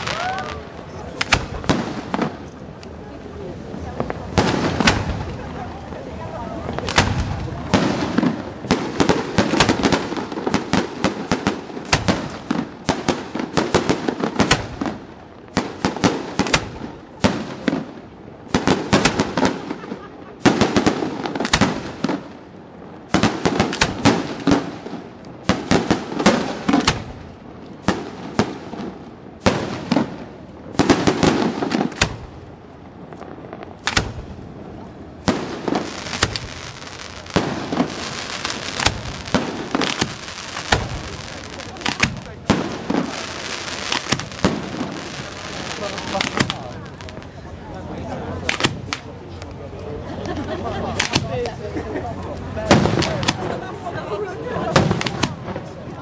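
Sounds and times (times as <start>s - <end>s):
firework shells bursting: 1.2s - 2.9s, 4.1s - 5.5s, 6.7s - 47.3s, 48.4s - 49.6s, 50.9s - 51.3s, 54.7s - 55.7s.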